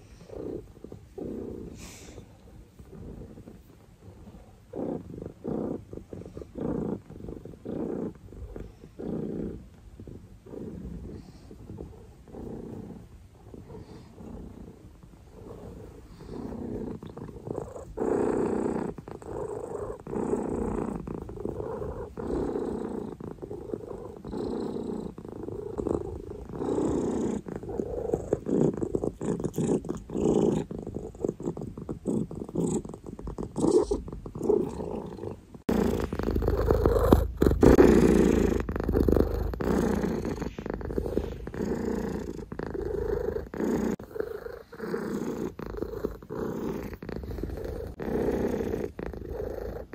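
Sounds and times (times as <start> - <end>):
cat purring: 0.0 - 49.9.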